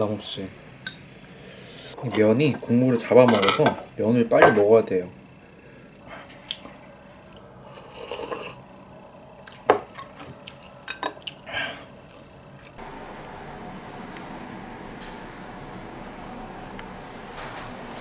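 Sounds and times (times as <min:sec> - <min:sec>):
steady room hum: 0:00.0 - 0:18.0.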